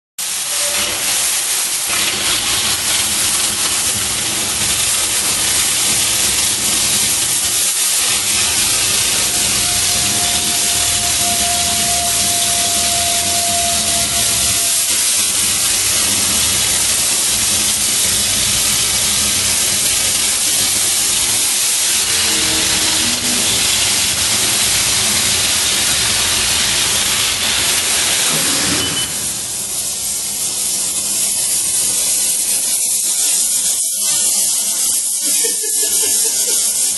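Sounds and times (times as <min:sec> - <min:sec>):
cutting torch hissing: 0:00.2 - 0:36.9.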